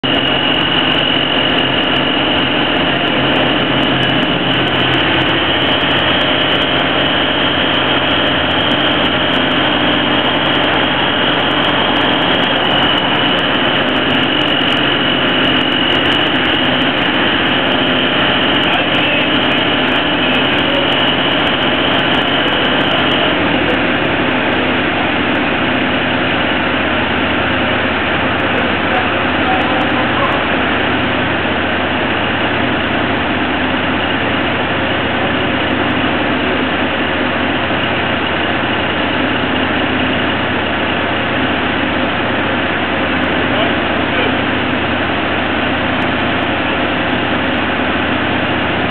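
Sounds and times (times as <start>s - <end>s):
diesel engine idling: 0.0s - 48.9s
high whine: 0.0s - 48.9s.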